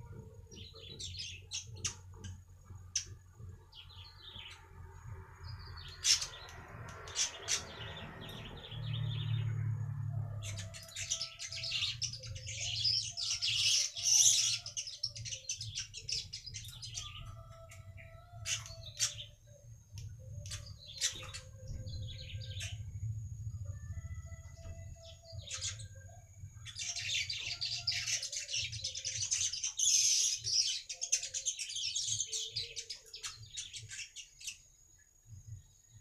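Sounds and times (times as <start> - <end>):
bird chirping and singing: 0.0 - 36.0
low steady hum: 0.0 - 36.0.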